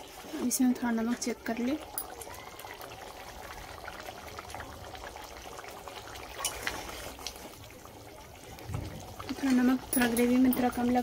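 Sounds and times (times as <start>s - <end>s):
thick gravy bubbling: 0.0s - 11.0s.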